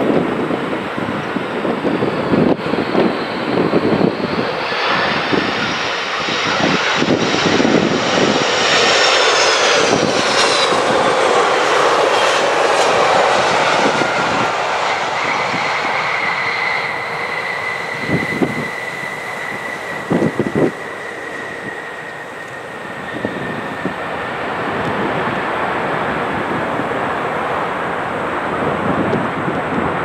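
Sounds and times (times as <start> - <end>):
jet airliner engines roaring: 0.0 - 30.0.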